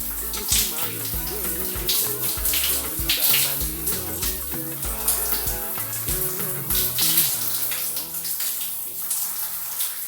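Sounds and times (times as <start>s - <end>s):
background music: 0.0s - 9.8s
shower water spraying: 0.0s - 10.0s.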